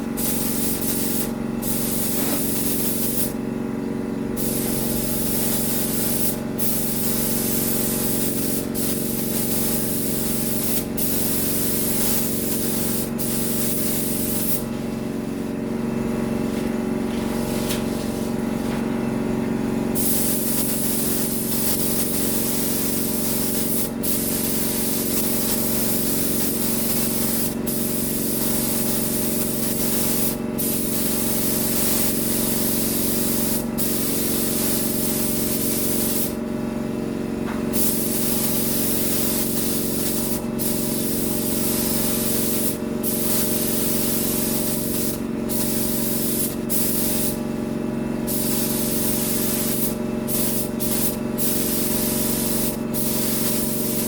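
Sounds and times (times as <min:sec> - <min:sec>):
paint spray gun hissing: 0:00.0 - 0:03.4, 0:04.4 - 0:14.7, 0:19.9 - 0:36.4, 0:37.7 - 0:47.4, 0:48.3 - 0:54.0
steady motor hum: 0:00.0 - 0:54.0.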